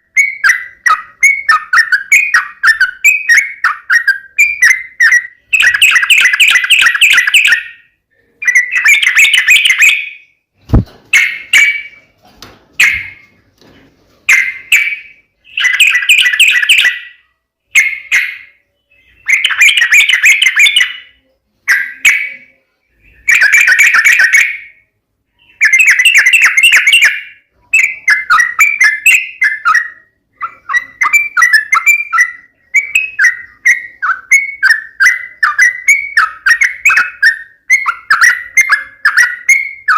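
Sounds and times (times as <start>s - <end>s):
bird chattering song: 0.0s - 12.1s, 12.8s - 13.4s, 14.3s - 39.9s.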